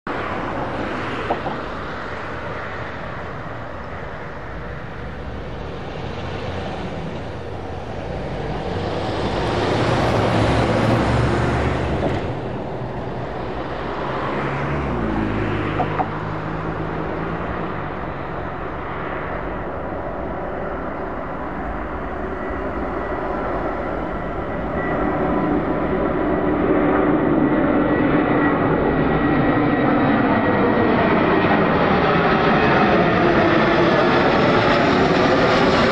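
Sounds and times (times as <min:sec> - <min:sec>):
jet airliner engines roaring: 0:00.1 - 0:35.9.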